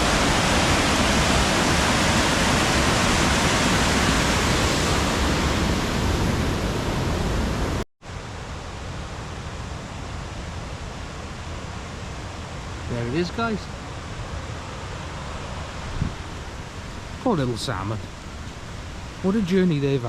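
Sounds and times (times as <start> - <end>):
waterfall rushing: 0.0 - 7.8, 8.5 - 20.0.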